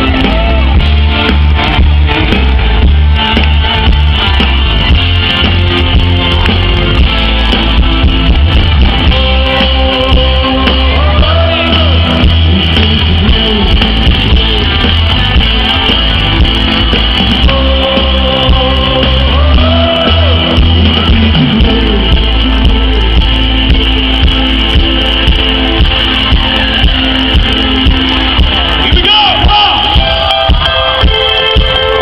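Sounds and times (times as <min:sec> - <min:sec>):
bass: 0:00.0 - 0:32.0
drums: 0:00.0 - 0:32.0
electric guitar: 0:00.0 - 0:32.0
keyboards: 0:00.0 - 0:32.0.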